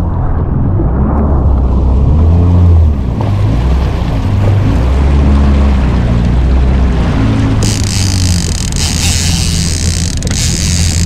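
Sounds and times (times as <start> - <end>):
water noise: 0.0 - 11.0
wind: 0.0 - 11.0
jet ski engine droning: 1.2 - 11.0.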